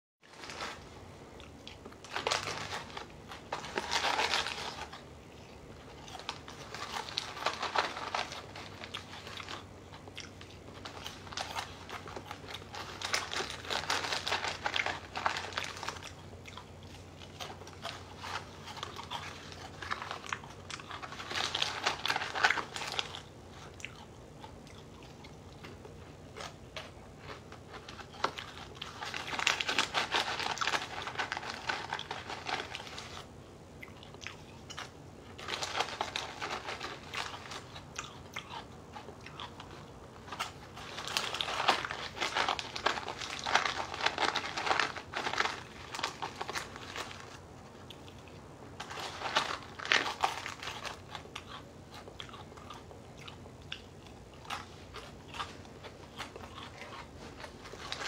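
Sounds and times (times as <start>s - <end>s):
person chewing crunchy cereal: 0.3s - 58.0s.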